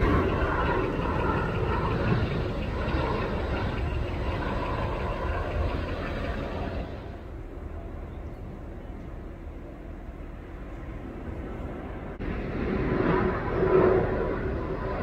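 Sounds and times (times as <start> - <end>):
high engine whine: 0.0 - 15.0
jet engines rumbling: 0.0 - 15.0.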